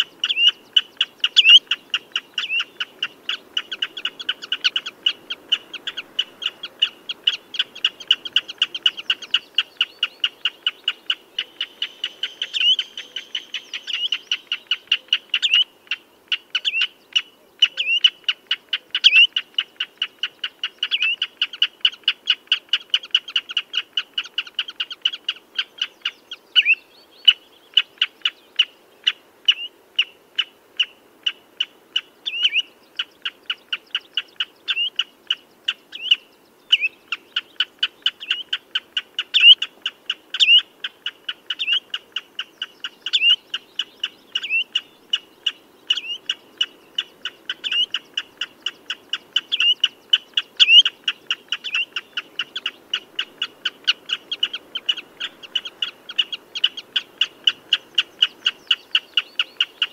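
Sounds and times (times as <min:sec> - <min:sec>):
bird piping calls: 0:00.0 - 0:59.9.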